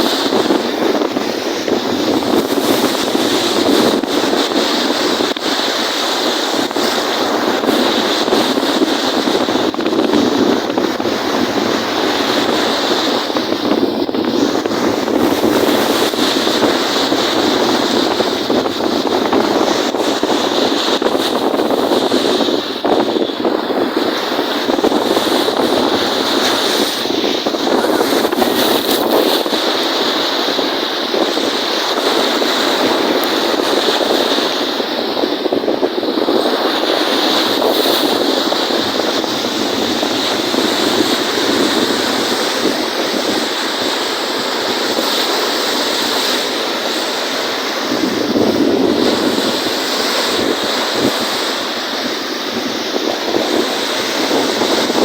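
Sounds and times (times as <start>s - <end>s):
waves on a lake: 0.0s - 55.0s
wind rushing over microphone: 0.0s - 55.0s.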